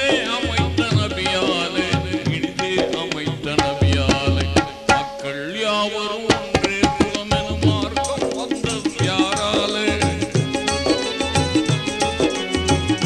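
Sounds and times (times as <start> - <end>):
tabla rhythm with deep bass: 0.0 - 13.0.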